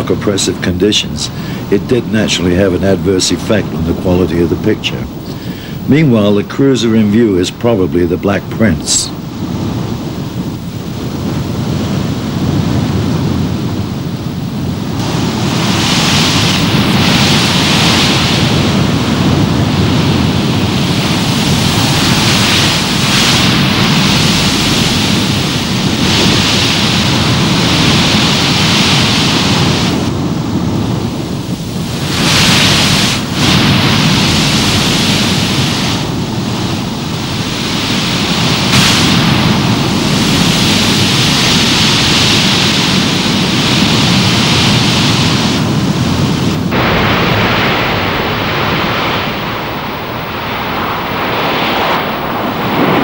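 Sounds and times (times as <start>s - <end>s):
heavy sea: 0.0s - 53.0s
stormy wind: 0.0s - 53.0s.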